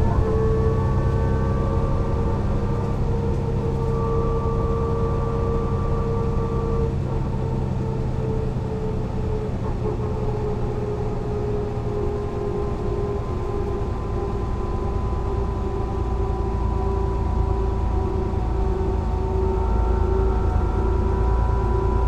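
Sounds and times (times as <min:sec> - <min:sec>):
bus engine rumbling: 0:00.0 - 0:22.0
constant whine: 0:00.0 - 0:22.0.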